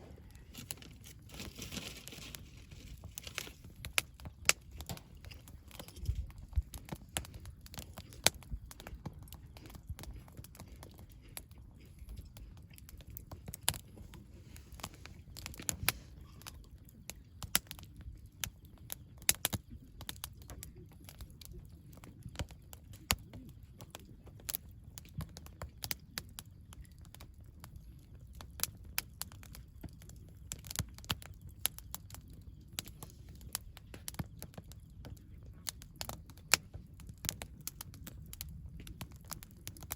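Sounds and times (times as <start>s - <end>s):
campfire crackling and popping: 0.0s - 39.9s
low steady fire rumble: 0.0s - 39.9s.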